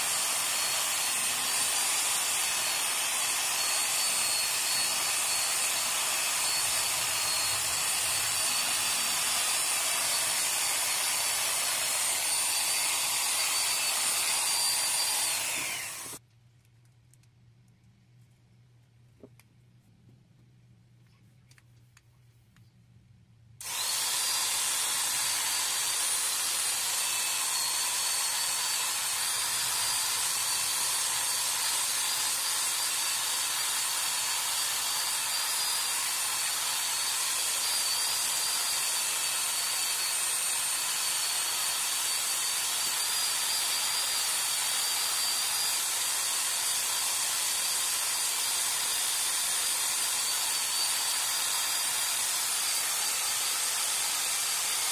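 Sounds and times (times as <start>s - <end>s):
electric drill whining: 0.0s - 16.2s, 23.6s - 54.9s.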